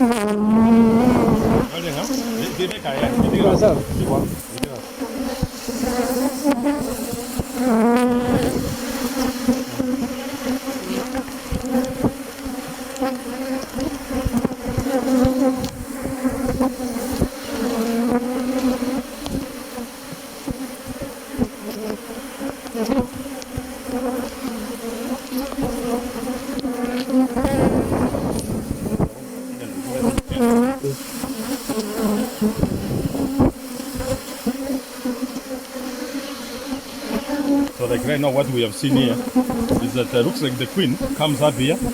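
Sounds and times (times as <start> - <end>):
honeybees buzzing: 0.0 - 41.9.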